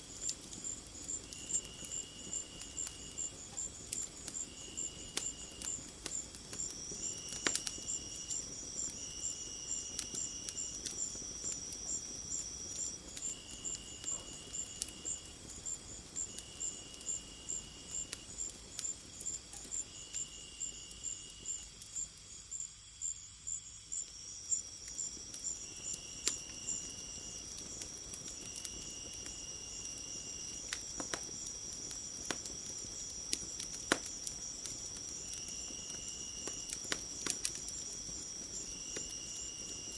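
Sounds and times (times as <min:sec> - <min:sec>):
wood fire crackling: 0:00.0 - 0:22.5, 0:24.0 - 0:39.9
insects chirping: 0:00.0 - 0:39.9.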